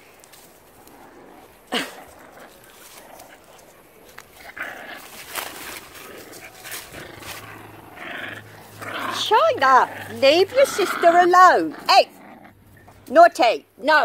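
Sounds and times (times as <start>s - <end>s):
puppies scuffling: 0.0s - 13.3s.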